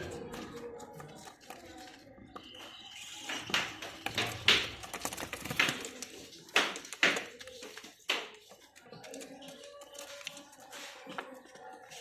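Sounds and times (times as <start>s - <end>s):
birds pecking seed in plastic tray: 0.0s - 12.0s.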